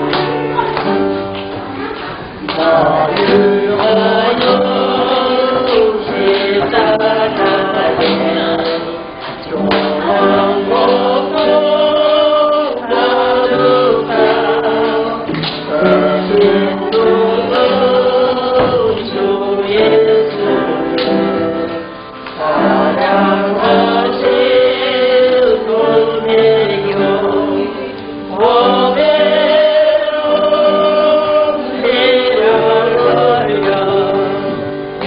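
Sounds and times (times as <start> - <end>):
instrumental accompaniment: 0.0 - 35.0
choir singing a hymn: 2.4 - 35.0.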